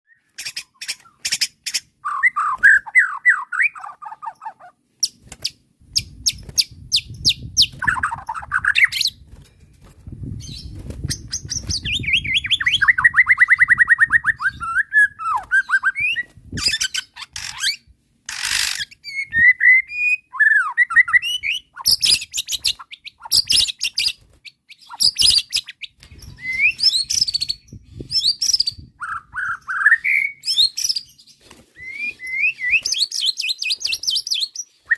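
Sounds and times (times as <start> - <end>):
songbird singing: 0.1 - 9.3, 10.2 - 34.9.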